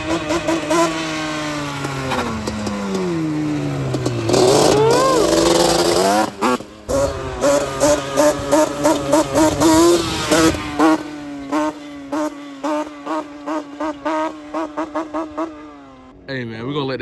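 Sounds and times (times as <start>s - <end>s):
two-stroke engine idling and revving: 0.0s - 16.3s.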